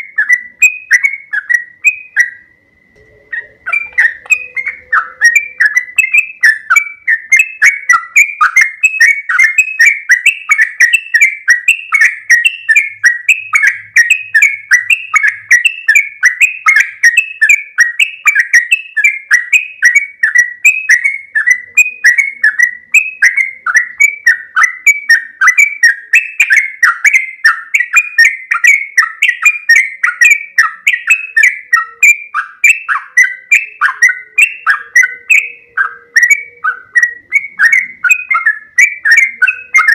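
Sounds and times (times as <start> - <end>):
bird singing bubbly notes: 0.0 - 39.9.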